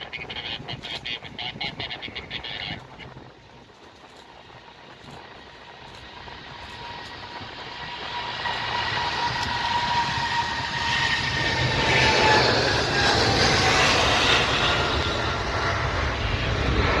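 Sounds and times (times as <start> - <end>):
jet airliner engines whining: 0.0 - 17.0.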